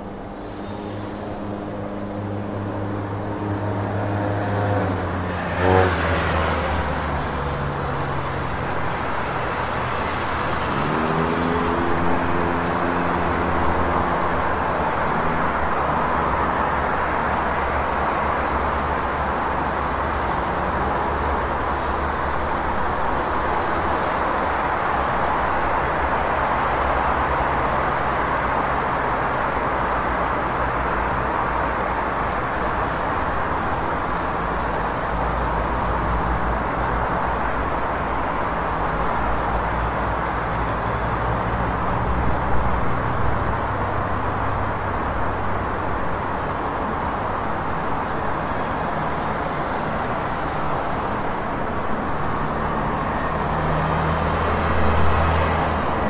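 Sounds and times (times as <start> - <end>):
city street traffic hum: 0.0 - 56.0.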